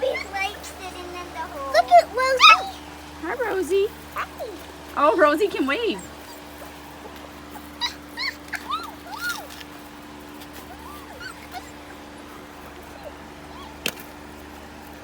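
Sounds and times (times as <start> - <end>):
puppies whimpering and yipping: 0.0 - 14.6.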